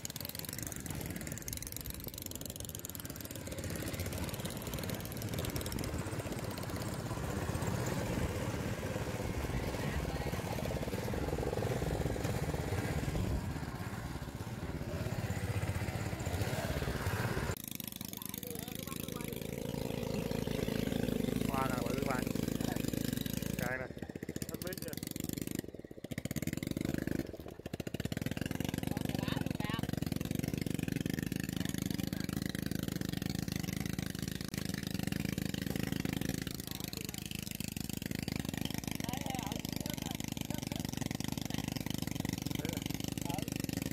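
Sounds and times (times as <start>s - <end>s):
small engine running: 0.0s - 43.9s.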